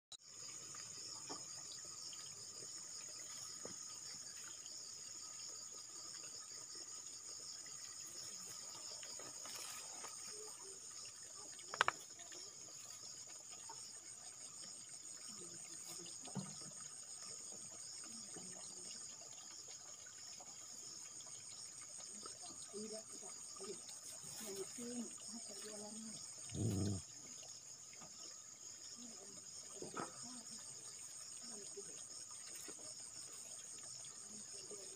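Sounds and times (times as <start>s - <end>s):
insects trilling: 0.2s - 34.9s.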